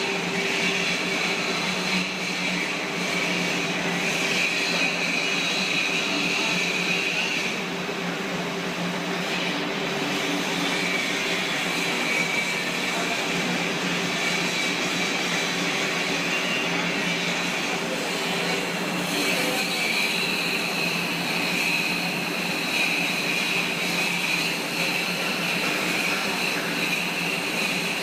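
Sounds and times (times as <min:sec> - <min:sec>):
machinery drone with whine: 0:00.0 - 0:28.0.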